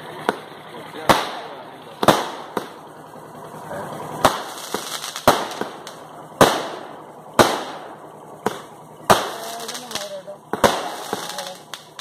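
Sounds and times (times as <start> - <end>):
fireworks loud bangs: 0.0 - 12.0
fireworks small cracks: 0.0 - 12.0.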